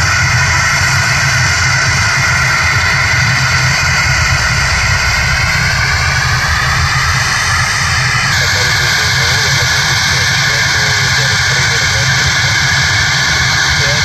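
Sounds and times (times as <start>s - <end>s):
low engine rumble: 0.0s - 14.0s
turboprop engines whining: 0.0s - 14.0s.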